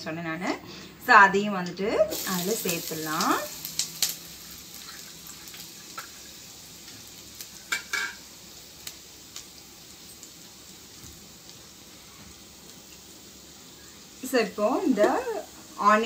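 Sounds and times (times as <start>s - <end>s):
onions sizzling in a pan: 2.0s - 16.0s.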